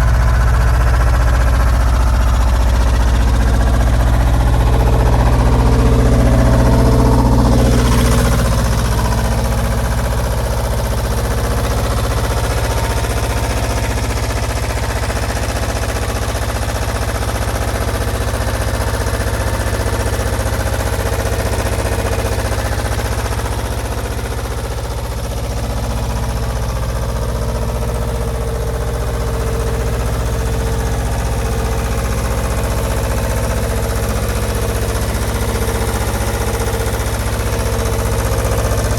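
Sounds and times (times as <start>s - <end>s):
diesel compressor engine knocking: 0.0s - 38.9s.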